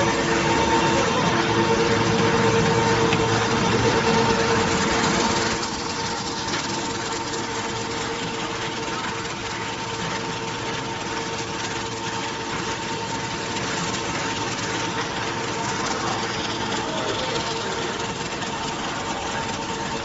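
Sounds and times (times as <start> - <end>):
snack machine humming and whining: 0.0 - 20.0.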